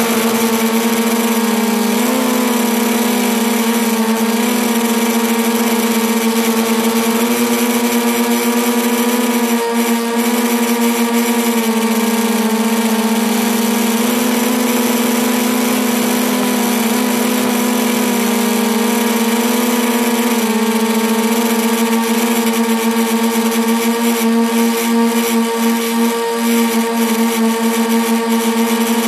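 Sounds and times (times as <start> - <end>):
model plane motor droning: 0.0 - 29.0.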